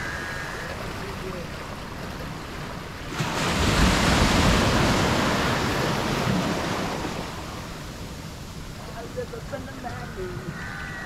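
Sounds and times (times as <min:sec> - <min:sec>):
ocean surf breaking: 0:00.0 - 0:10.5.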